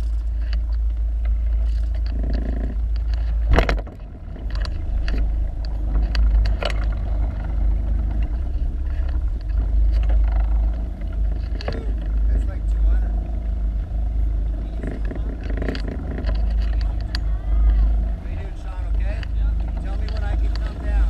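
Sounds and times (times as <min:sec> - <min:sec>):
boat engine rumble: 0:00.0 - 0:21.0
wind on microphone: 0:00.0 - 0:21.0.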